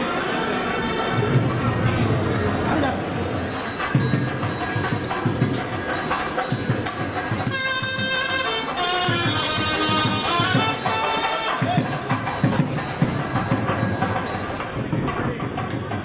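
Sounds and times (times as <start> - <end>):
wind instrument ornamented melody: 0.0 - 16.0
drums and small cymbals: 1.2 - 16.0.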